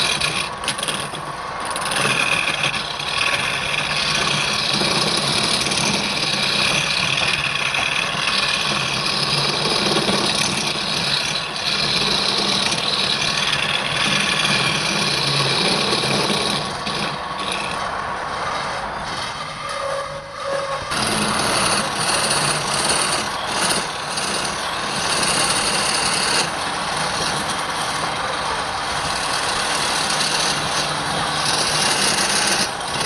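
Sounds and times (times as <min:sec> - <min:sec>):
tool scraping spinning wood: 0:00.0 - 0:33.0
wood lathe hum: 0:00.0 - 0:33.0.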